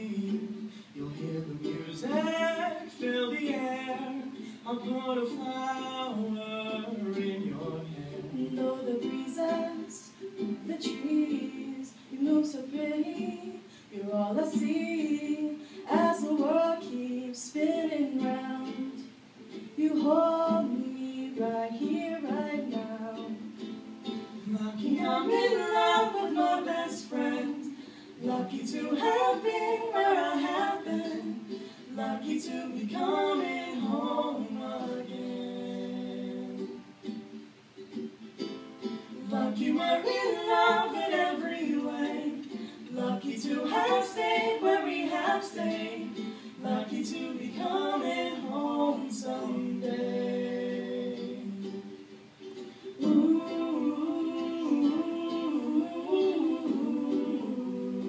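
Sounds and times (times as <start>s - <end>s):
ukulele: 0.0s - 58.0s.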